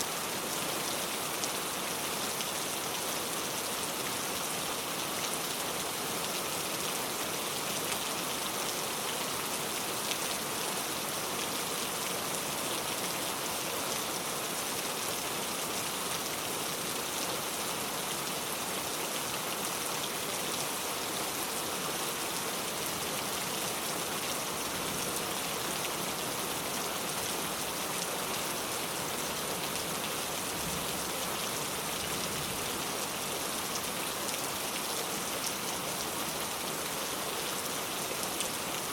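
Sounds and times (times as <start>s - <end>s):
rain falling on a car: 0.1s - 38.9s.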